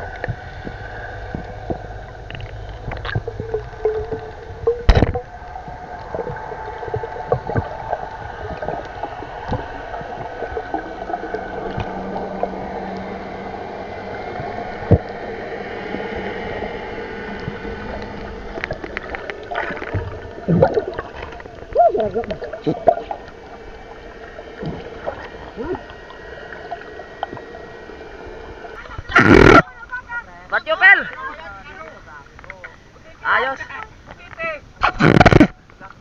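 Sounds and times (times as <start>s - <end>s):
underwater droning hum: 0.0s - 36.0s.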